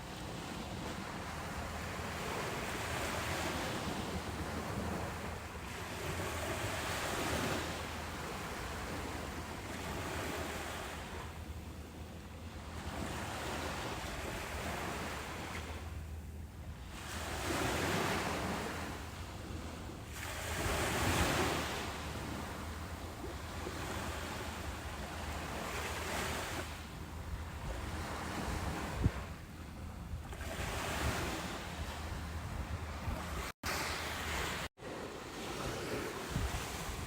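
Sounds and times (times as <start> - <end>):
ocean waves breaking on beach: 0.0 - 37.0.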